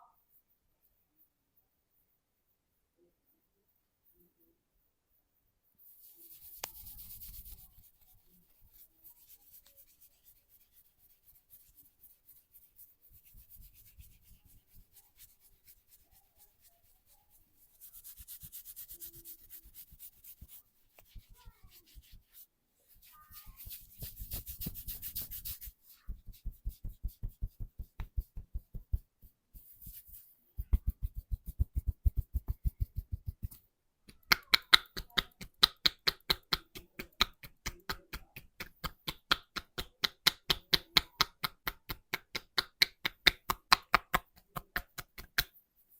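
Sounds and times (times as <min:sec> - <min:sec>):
hands rubbing skin and hair: 0:05.8 - 0:45.9
hands slapping and tapping skin: 0:06.2 - 0:22.4, 0:23.0 - 0:45.6.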